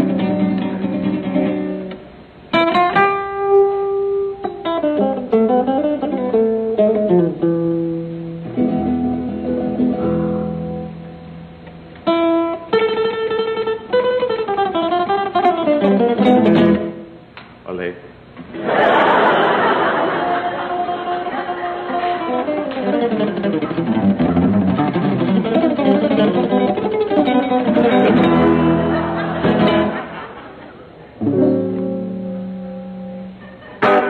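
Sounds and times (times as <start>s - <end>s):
resonator guitar playing: 0.0s - 17.2s, 19.4s - 34.0s.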